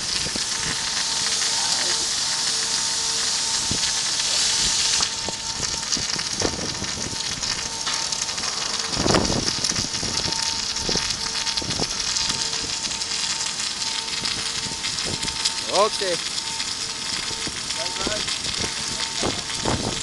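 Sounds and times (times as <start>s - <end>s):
heavy rain on hard surfaces: 0.0s - 20.0s
steady machine hum: 0.0s - 20.0s.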